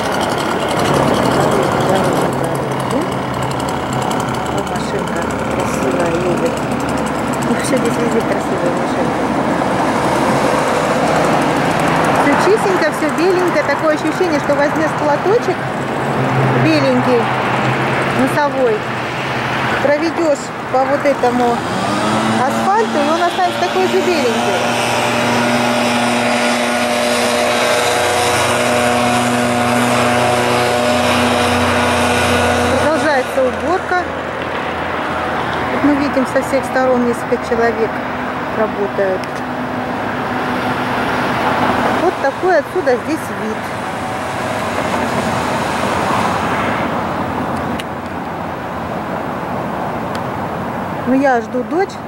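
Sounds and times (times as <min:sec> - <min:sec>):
leaf blower running: 0:00.0 - 0:47.8
cars passing on road: 0:00.0 - 0:52.0.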